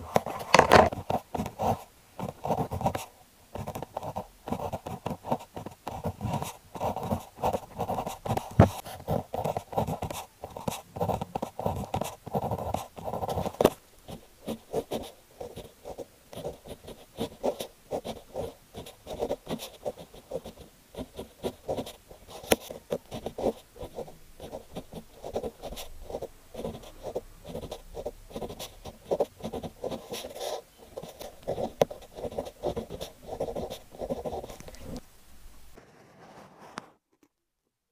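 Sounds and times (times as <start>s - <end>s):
pen writing on paper: 0.1s - 35.0s, 35.8s - 36.9s.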